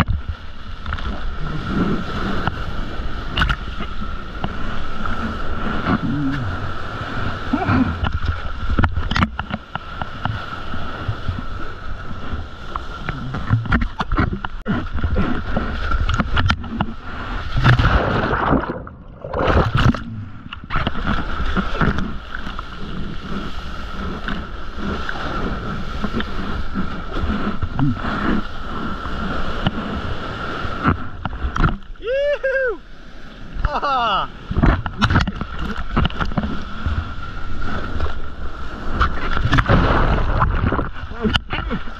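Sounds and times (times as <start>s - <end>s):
whitewater splashing and sloshing: 0.0s - 41.9s.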